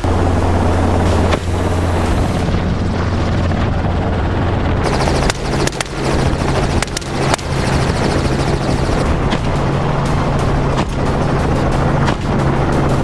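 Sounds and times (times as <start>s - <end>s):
helicopter rotor drone: 0.0s - 13.0s
wind noise on microphone: 0.0s - 13.0s.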